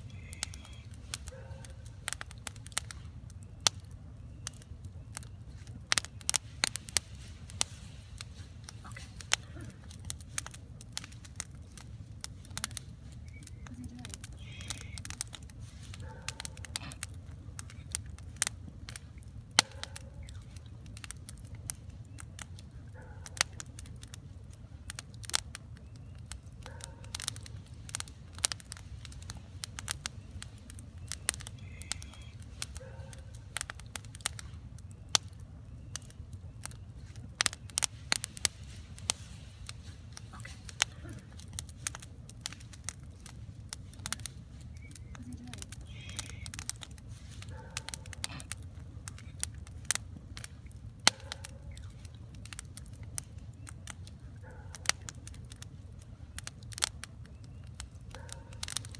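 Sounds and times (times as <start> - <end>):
campfire crackling and popping: 0.0 - 58.9
low steady fire rumble: 0.0 - 58.9.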